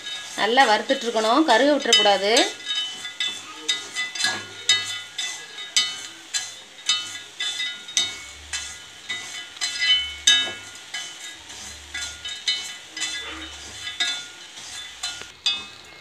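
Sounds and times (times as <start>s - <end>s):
metal spoon scraping iron pan: 0.0s - 16.0s
pan ringing: 0.0s - 16.0s.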